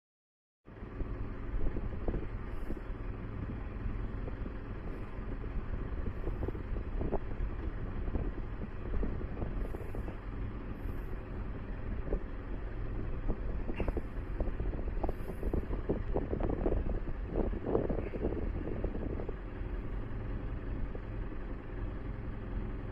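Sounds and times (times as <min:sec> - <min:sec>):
ship engine rumble: 0:00.7 - 0:22.9
wind noise on microphone: 0:00.8 - 0:22.9.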